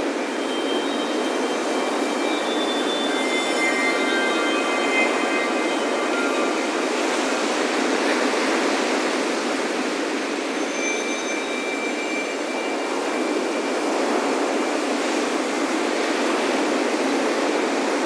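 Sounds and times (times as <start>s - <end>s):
wind chimes ringing: 0.0s - 16.2s
ocean surf rushing: 0.0s - 18.0s.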